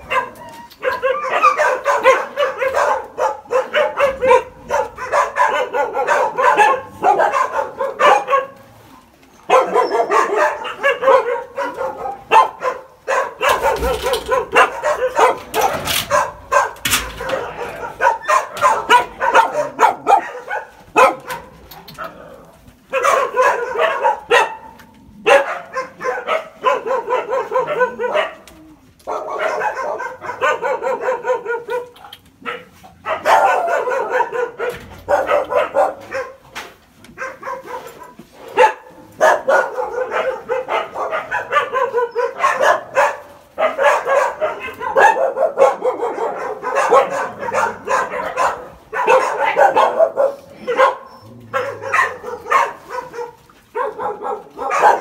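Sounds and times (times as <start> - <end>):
dogs barking and yelping: 0.0 - 55.0.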